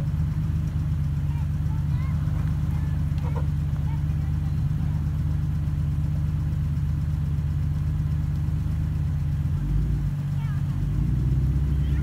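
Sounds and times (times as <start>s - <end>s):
engines idling with low rumble: 0.0s - 12.0s.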